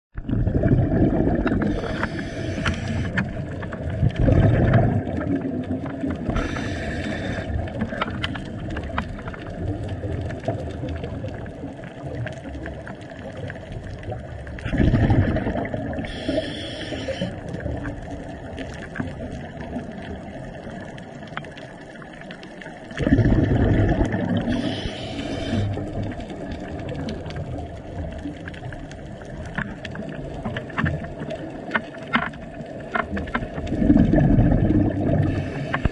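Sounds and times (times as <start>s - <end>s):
exhaled bubbles: 0.1s - 35.9s
underwater water noise: 0.1s - 35.9s.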